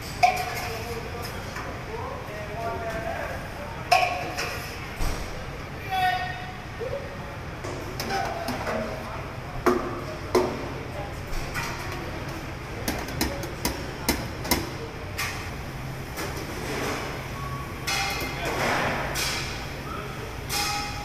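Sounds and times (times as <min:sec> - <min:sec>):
low kitchen hum: 0:00.0 - 0:21.0.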